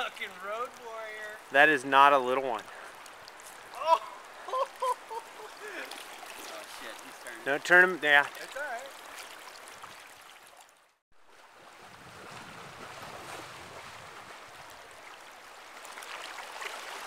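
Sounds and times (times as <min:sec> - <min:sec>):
river current flowing: 0:00.0 - 0:17.0.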